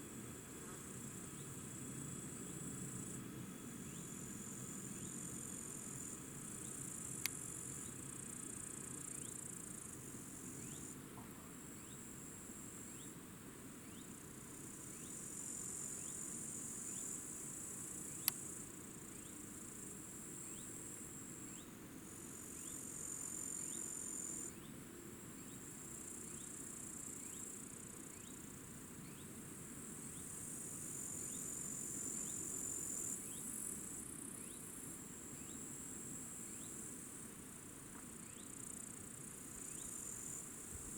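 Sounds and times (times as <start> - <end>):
insects chirring in grass: 0.8 - 11.0, 11.6 - 13.2, 13.8 - 21.6, 22.3 - 24.7, 25.4 - 40.9.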